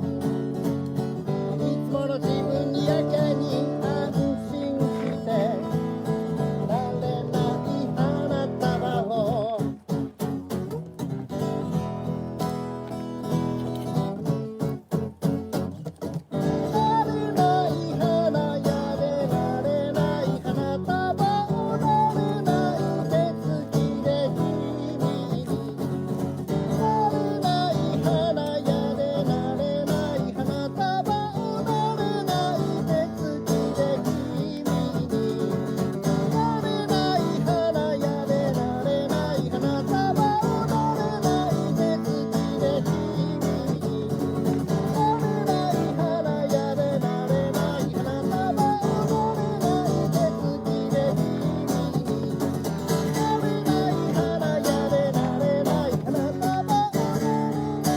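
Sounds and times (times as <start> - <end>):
acoustic guitar strumming: 0.0 - 57.9.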